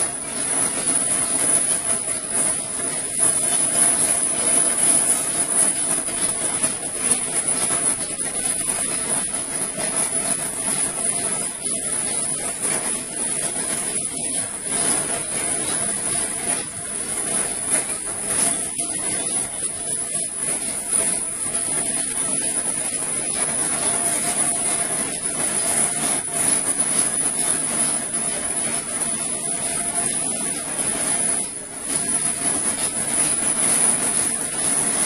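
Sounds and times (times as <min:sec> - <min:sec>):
high-pitched whine: 0:00.0 - 0:35.0
machine drone: 0:00.0 - 0:35.0.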